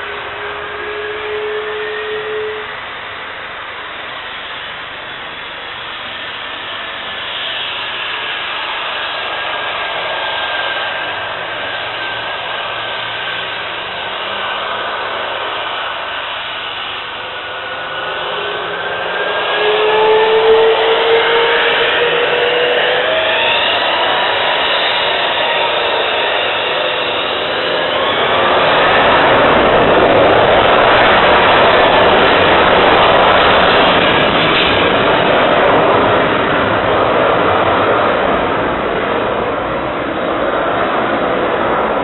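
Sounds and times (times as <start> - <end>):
jet engines rushing and whining: 0.0 - 42.0.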